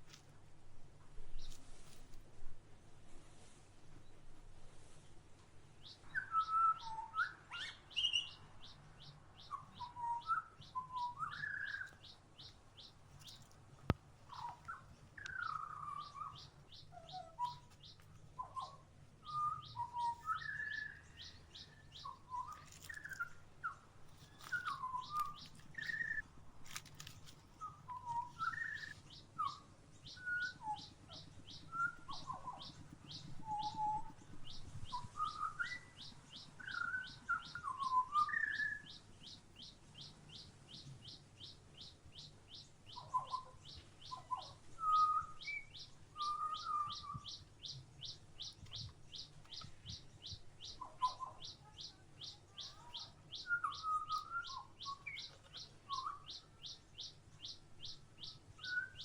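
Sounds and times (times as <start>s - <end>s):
whistled and warbled bird notes: 5.8s - 13.4s, 14.3s - 26.2s, 27.6s - 40.4s, 42.9s - 59.0s.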